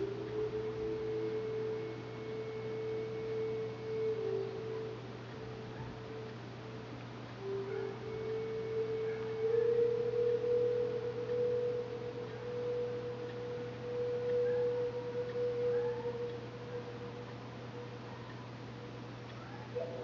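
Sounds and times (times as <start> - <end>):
low hum: 0.0 - 20.0
steady pure tone: 0.0 - 20.0.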